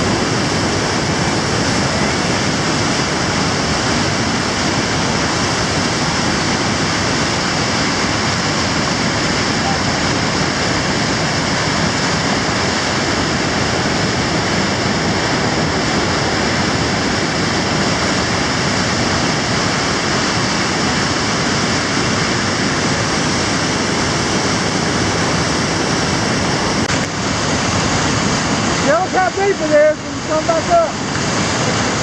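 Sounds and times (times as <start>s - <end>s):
river rapids rushing over rocks: 0.0s - 32.0s.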